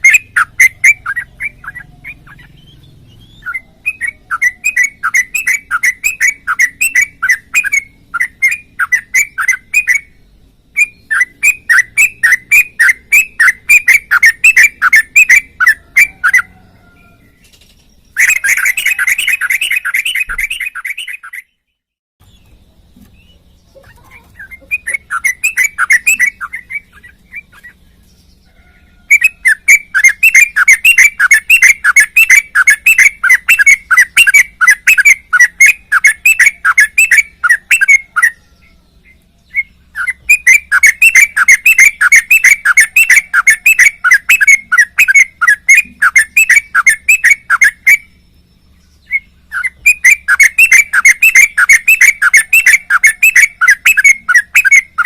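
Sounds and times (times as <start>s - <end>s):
bird singing rapid repeated notes: 0.0s - 55.0s.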